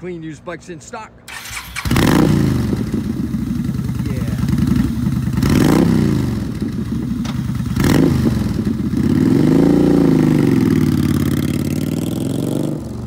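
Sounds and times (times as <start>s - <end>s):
motorcycle engine revving: 1.3s - 13.0s.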